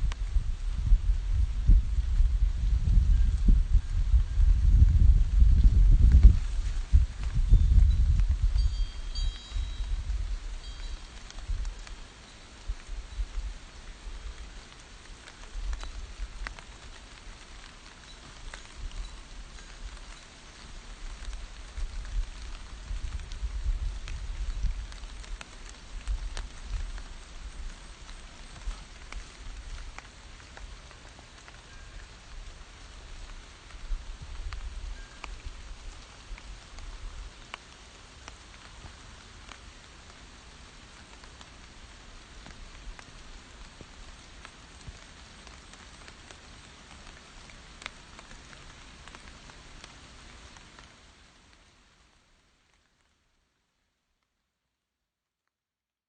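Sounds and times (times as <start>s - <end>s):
rain pattering on leaves: 0.0s - 54.4s.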